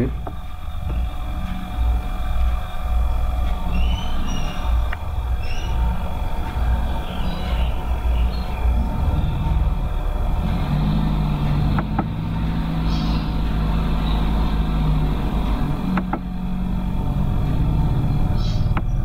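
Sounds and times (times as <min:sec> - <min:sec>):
low drone with held tones: 0:00.0 - 0:19.0.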